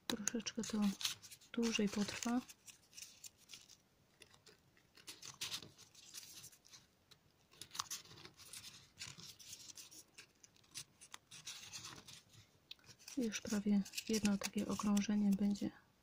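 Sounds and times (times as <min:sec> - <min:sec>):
paper rustling and crackling: 0:00.2 - 0:06.9, 0:07.5 - 0:15.6.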